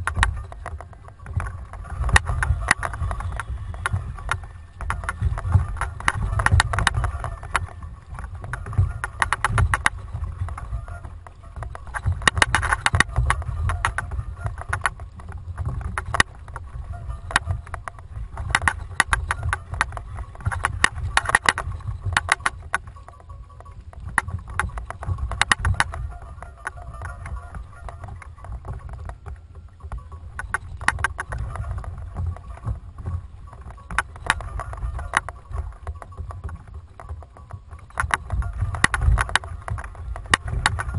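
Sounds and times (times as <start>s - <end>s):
rapid clicking: 0.0s - 40.9s
water washing against hull: 0.0s - 40.9s
wind rumbling on microphone: 0.0s - 40.9s.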